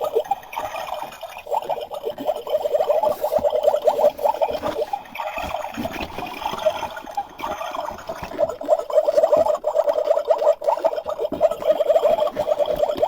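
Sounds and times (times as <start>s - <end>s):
water bubbling and trickling: 0.0s - 13.0s.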